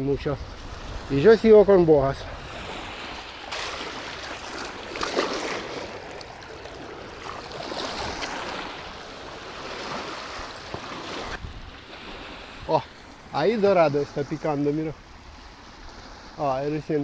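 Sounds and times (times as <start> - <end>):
river water lapping against bank: 0.0 - 17.0.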